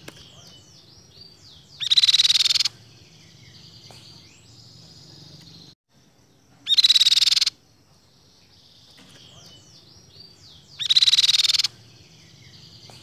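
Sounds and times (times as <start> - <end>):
bird rapid trill: 0.0 - 5.7, 6.6 - 7.6, 8.6 - 13.0.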